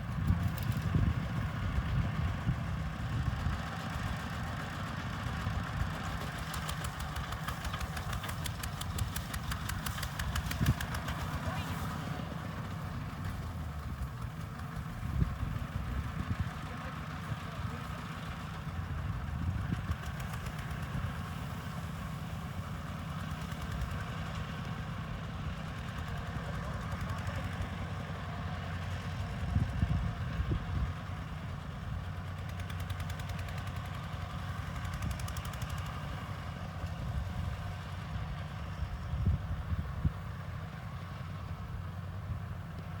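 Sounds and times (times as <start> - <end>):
diesel tractor engine running: 0.0 - 43.0.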